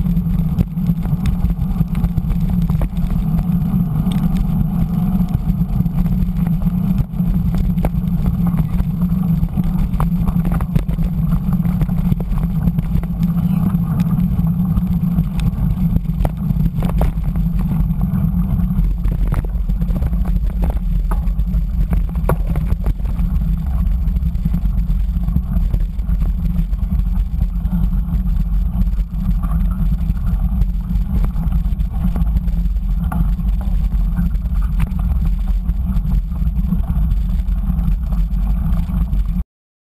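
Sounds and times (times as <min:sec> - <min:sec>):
bike rattling over stones: 0:00.0 - 0:39.4
muffled wind and road rumble: 0:00.0 - 0:39.4.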